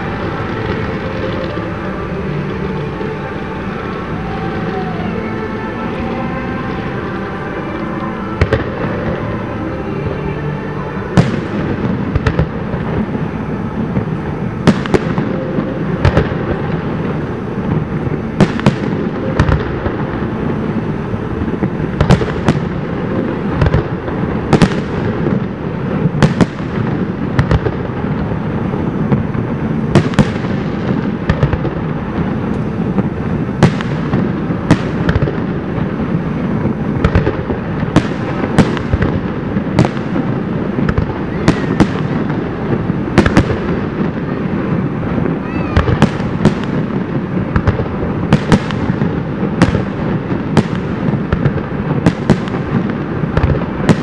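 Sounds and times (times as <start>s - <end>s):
rumble of firework reports: 0.0s - 54.0s.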